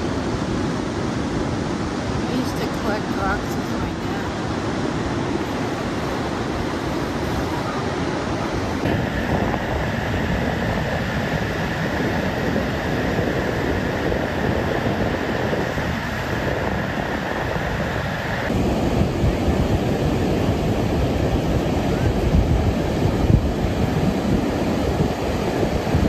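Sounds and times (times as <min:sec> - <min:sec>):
ocean surf rushing: 0:00.0 - 0:26.0
wind rumbling on microphone: 0:00.0 - 0:26.0.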